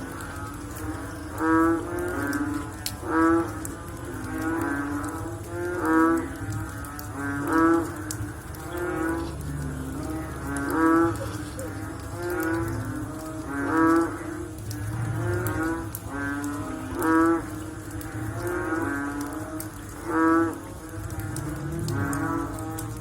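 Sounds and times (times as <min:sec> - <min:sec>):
frogs croaking: 0:00.0 - 0:23.0.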